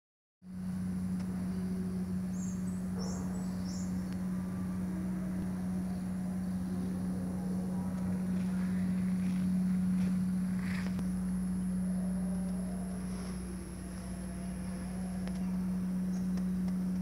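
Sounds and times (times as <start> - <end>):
low machinery hum: 0.4 - 17.0.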